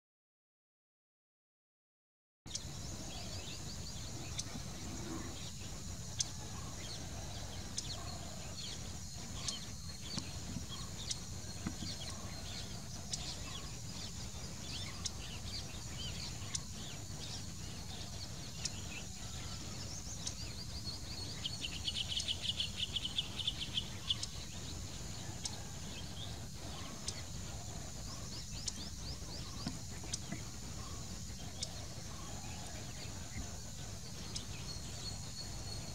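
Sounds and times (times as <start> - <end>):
small birds calling: 2.5 - 35.9.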